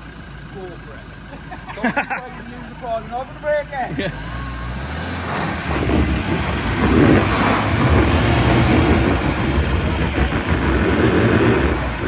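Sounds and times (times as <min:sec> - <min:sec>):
truck engine running under load: 0:00.0 - 0:12.0.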